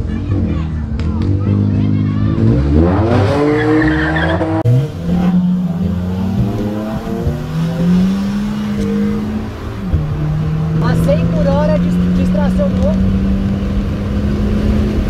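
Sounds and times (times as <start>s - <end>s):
car engine revving hard: 0.2s - 15.0s.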